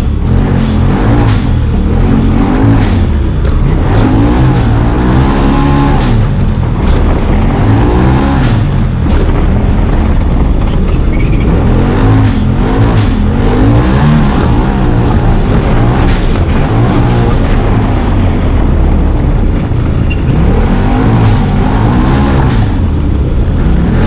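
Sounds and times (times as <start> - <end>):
utility vehicle engine revving: 0.0 - 24.0
wind and dirt noise: 0.0 - 24.0.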